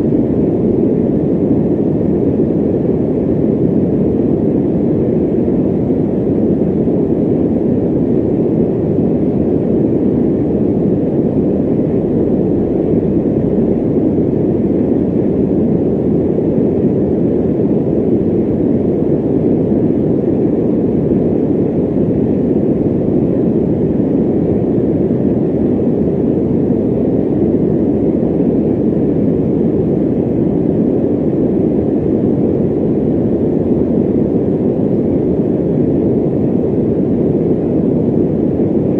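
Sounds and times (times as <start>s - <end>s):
electric fan running: 0.0s - 38.9s.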